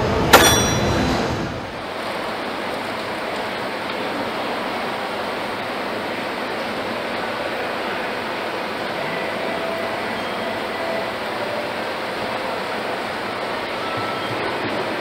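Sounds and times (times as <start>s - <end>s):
ventilation and machinery rumble: 0.0s - 15.0s.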